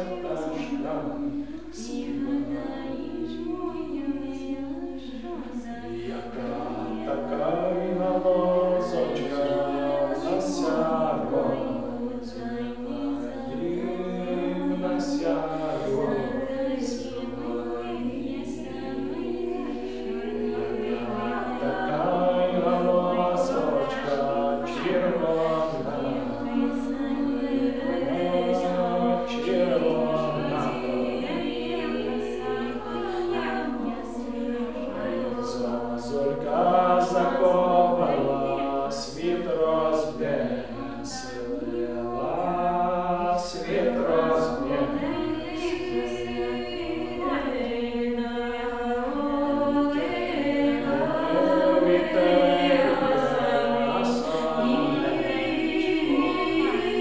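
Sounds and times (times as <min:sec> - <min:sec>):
mixed choir singing a cappella: 0:00.0 - 0:57.0.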